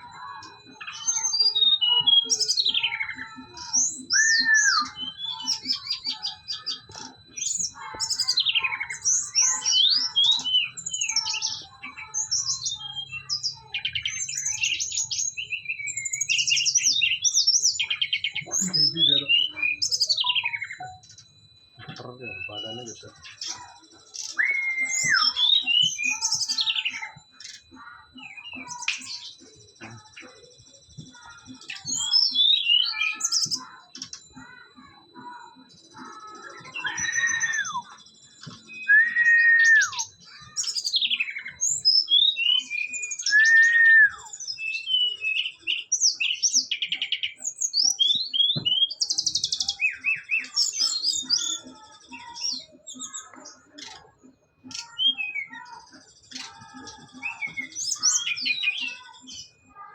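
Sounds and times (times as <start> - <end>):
bird whistling and chirping: 0.0 - 59.6.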